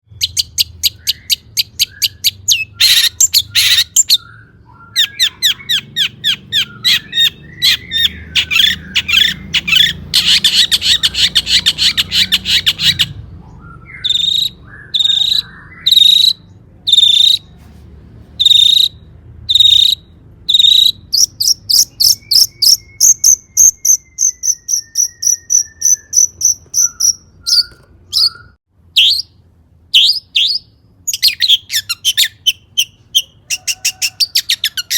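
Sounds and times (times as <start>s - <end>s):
shrike singing: 0.2s - 17.6s, 18.4s - 34.9s.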